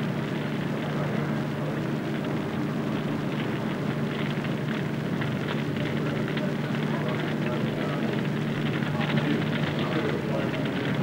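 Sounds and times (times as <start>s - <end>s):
fire crackling: 0.0s - 11.0s
flames rushing: 0.0s - 11.0s.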